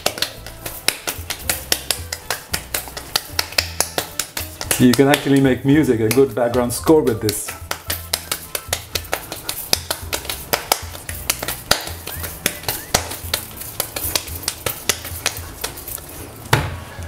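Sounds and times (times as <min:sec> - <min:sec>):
dough slapping on counter: 0:00.0 - 0:16.8.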